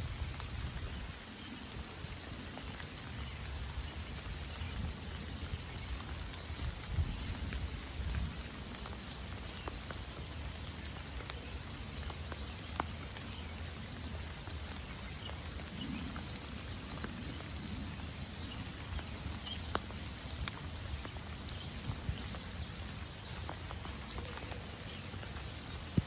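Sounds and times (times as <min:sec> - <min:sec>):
rain pattering on leaves: 0:00.0 - 0:26.0.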